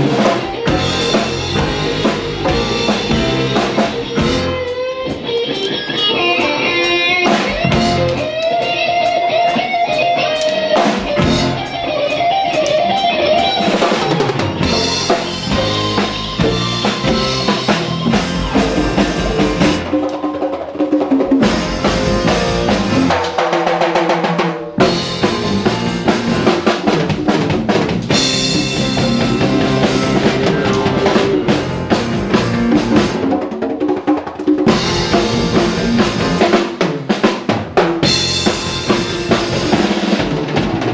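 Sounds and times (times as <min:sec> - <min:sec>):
drum kit: 0:00.0 - 0:40.9
guitar: 0:00.0 - 0:40.9
live latin band playing: 0:00.0 - 0:40.9.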